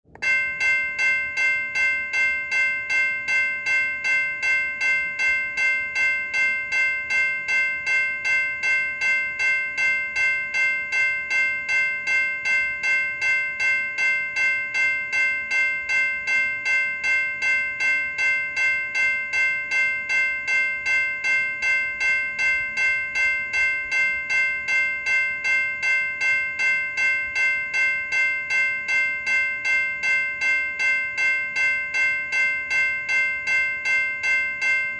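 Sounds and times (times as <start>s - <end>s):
railroad crossing bell ringing: 0.1s - 34.9s.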